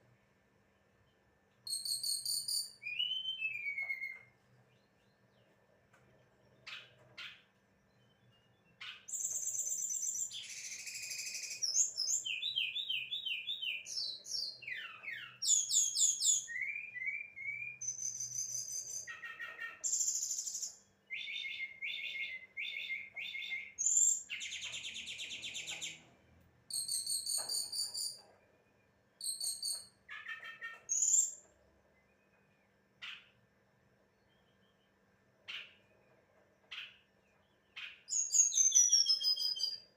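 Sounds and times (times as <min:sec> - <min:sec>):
bird singing trills and whistles: 0:01.6 - 0:05.1, 0:06.5 - 0:26.1, 0:26.7 - 0:28.5, 0:29.2 - 0:33.4, 0:34.2 - 0:36.1, 0:36.7 - 0:39.9.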